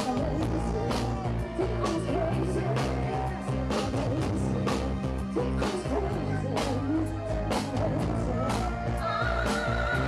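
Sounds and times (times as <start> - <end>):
live rock band playing: 0.0 - 10.0
woman singing: 0.0 - 10.0.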